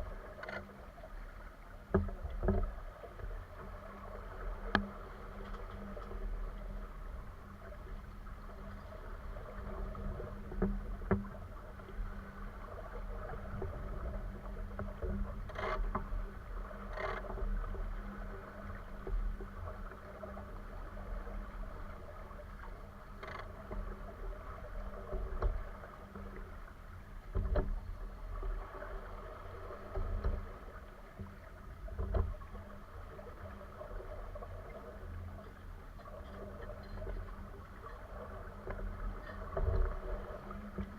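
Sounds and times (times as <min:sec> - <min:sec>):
boat engine rumble: 0:00.0 - 0:40.9
water against hull: 0:00.0 - 0:40.9.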